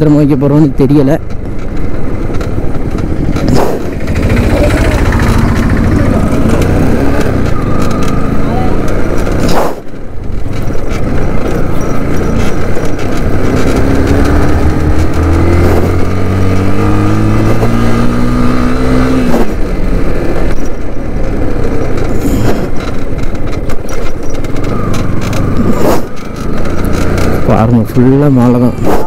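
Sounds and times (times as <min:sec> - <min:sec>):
motorcycle engine accelerating: 0:00.0 - 0:29.0
riding noise rush: 0:00.0 - 0:29.0.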